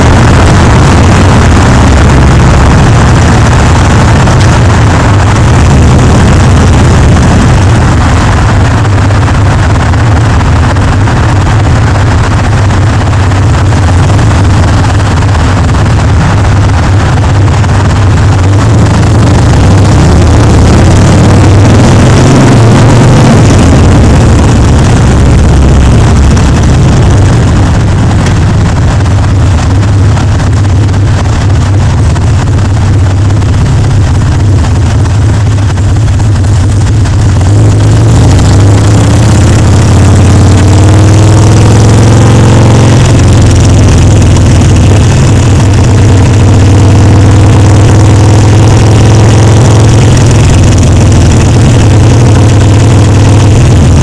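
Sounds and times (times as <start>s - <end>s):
motorcycle engine running loud: 0.0s - 54.0s
wind noise on microphone: 0.0s - 54.0s.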